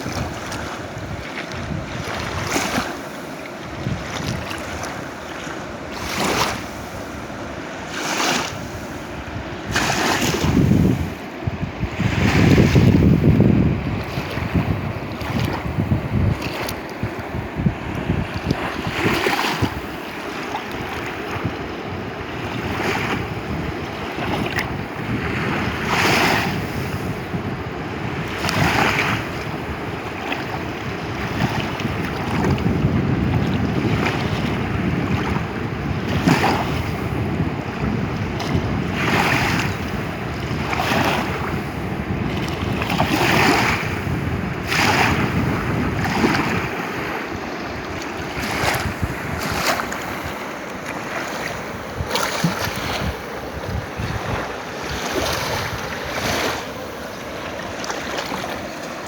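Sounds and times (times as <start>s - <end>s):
river water rushing: 0.0s - 27.3s, 28.2s - 59.0s
wind noise on microphone: 0.0s - 59.0s.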